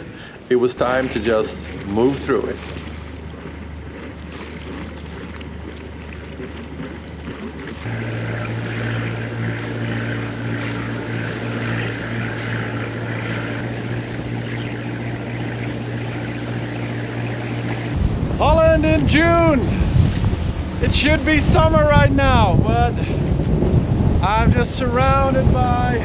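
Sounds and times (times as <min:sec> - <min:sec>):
boat engine running: 0:00.0 - 0:26.0
wind and water hiss: 0:00.0 - 0:26.0.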